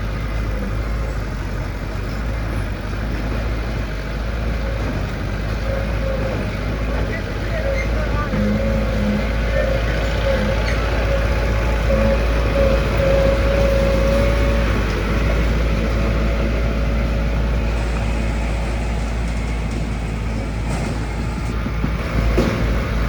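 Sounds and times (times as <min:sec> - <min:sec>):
diesel construction machinery running: 0:00.0 - 0:23.0.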